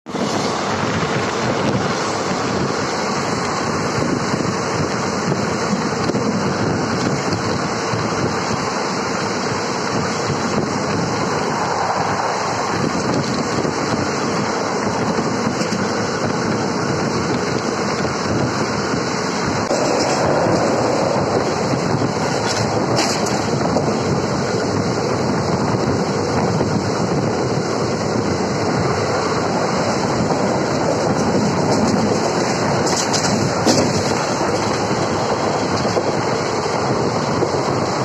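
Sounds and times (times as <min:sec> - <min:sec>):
train running at high speed: 0:00.0 - 0:38.0
wind buffeting microphone: 0:00.1 - 0:38.0.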